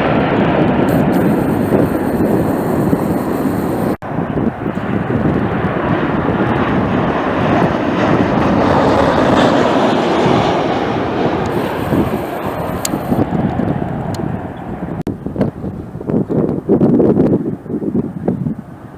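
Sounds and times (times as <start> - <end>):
jet engines roaring: 0.0 - 16.0
wind on microphone: 0.0 - 18.9.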